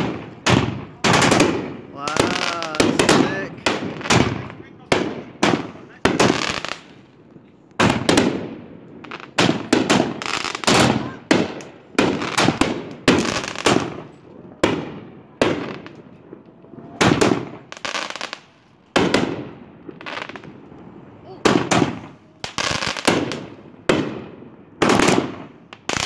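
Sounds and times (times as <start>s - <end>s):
firework bangs: 0.0s - 26.0s.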